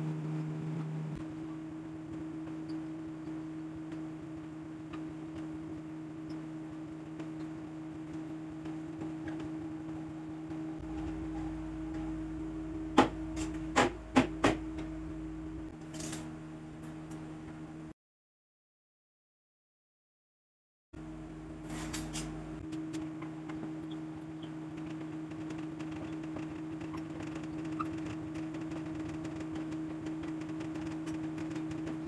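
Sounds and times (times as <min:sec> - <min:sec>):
steady low hum: 0:00.0 - 0:17.9, 0:21.0 - 0:32.0.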